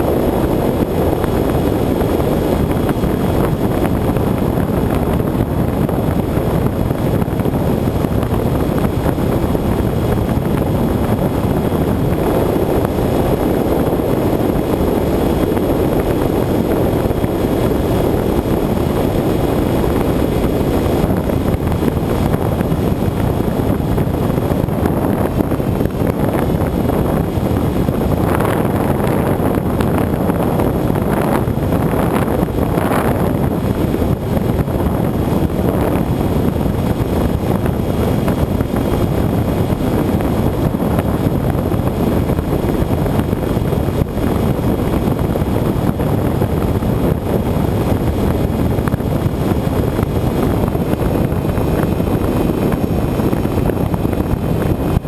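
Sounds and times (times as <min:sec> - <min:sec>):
air rushing over camera: 0:00.0 - 0:55.0.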